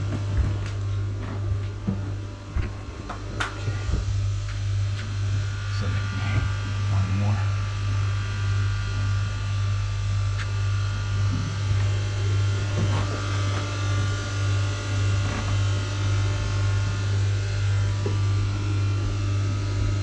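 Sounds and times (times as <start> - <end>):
engine room machinery drone: 0.0 - 20.0.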